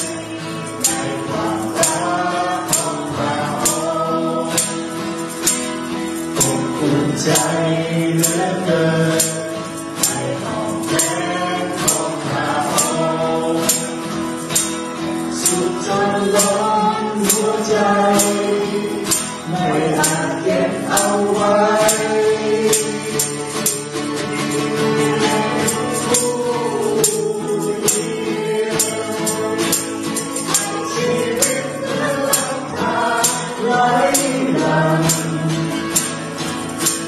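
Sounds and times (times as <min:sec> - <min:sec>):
acoustic guitar: 0:00.0 - 0:37.0
group singing worship song: 0:00.0 - 0:37.0
tambourine struck on the beat: 0:00.0 - 0:37.0.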